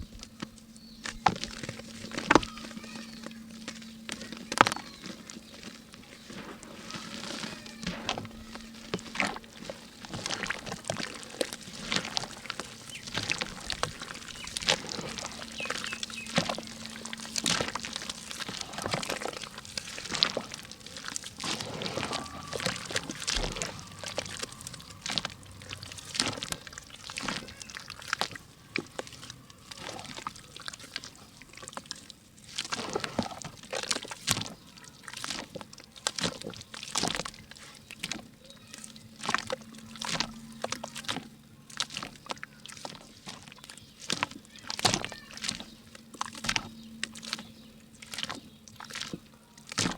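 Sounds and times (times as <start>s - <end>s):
wet mud crackling and sloshing: 0.0s - 49.9s.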